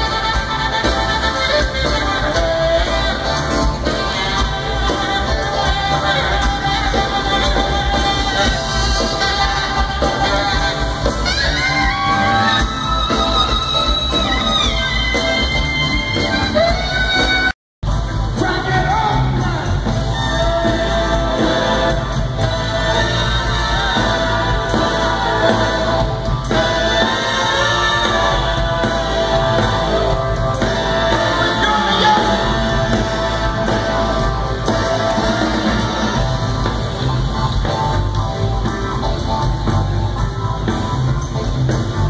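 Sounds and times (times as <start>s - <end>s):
live band with singer: 0.0s - 42.0s.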